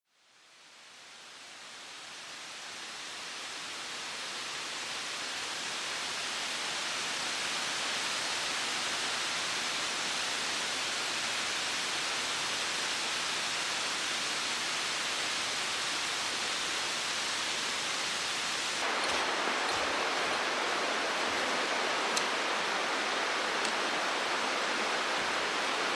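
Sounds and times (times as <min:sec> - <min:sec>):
stream rushing over rocks: 0:01.0 - 0:25.9.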